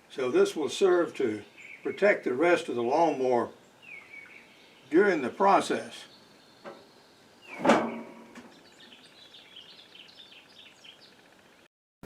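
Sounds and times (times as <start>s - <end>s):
birds chirping: 0.0s - 11.7s.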